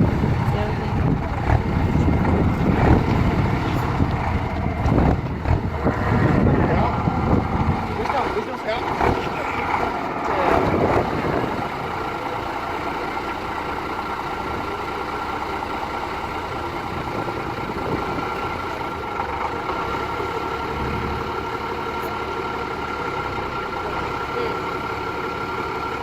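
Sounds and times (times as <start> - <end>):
heavy truck engine running: 0.0 - 26.0.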